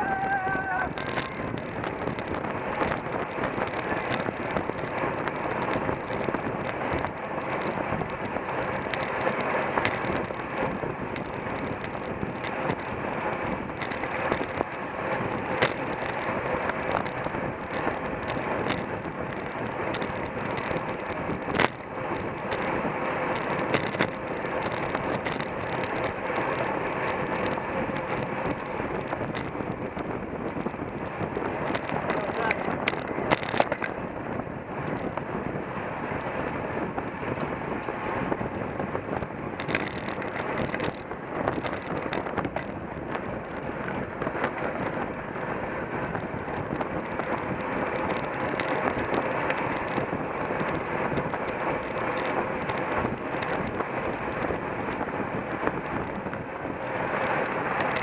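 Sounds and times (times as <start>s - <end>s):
bicycle clicks and rattles: 0.0s - 58.0s
bicycle road and wind noise: 0.0s - 58.0s.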